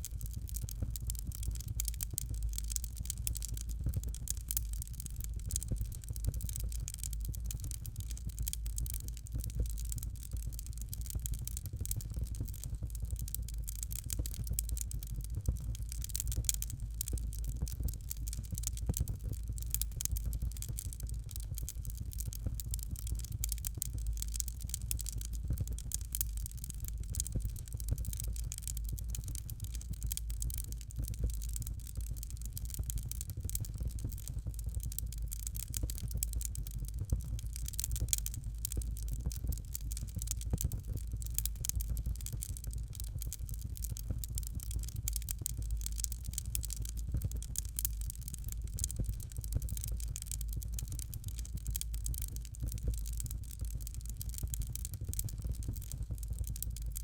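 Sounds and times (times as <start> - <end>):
fire crackling in a fireplace: 0.0 - 57.0.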